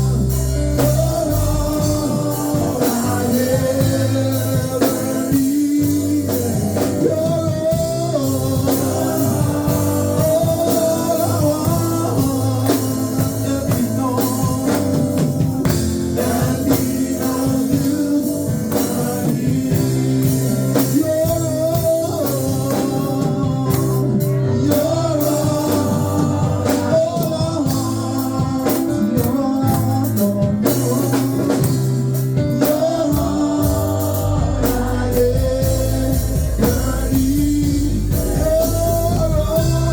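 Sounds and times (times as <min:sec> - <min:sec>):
band with bass and drums: 0:00.0 - 0:39.9
people singing: 0:00.0 - 0:39.9.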